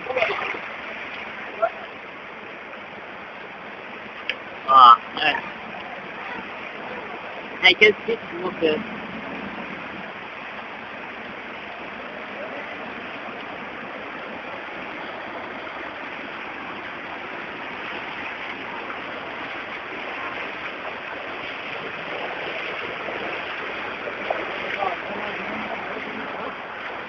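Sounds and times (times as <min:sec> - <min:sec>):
flowing floodwater: 0:00.0 - 0:27.0
heavy rain: 0:00.0 - 0:27.0.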